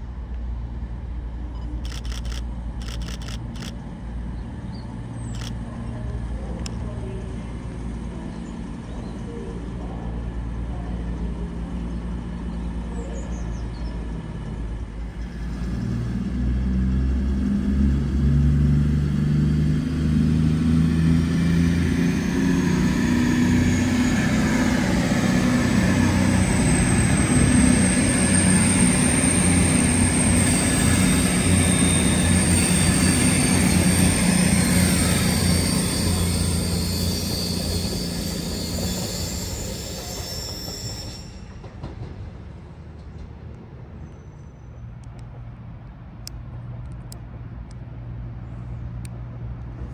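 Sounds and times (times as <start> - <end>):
diesel train engines running: 0.0 - 49.9.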